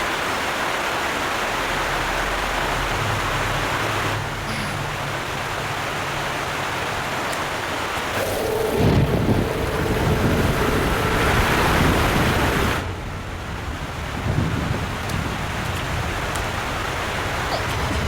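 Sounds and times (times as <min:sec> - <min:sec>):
river torrent roaring: 0:00.0 - 0:18.0
deep rumble: 0:01.1 - 0:18.0.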